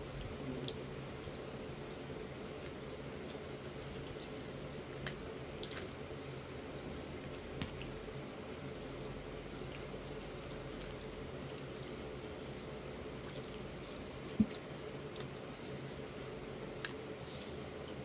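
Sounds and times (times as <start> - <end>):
steady hum: 0.0 - 18.0
wet chewing: 2.6 - 12.2, 13.2 - 18.0.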